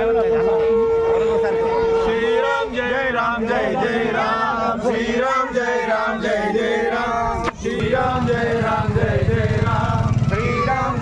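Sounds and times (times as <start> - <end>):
men chanting a devotional song: 0.0 - 11.0.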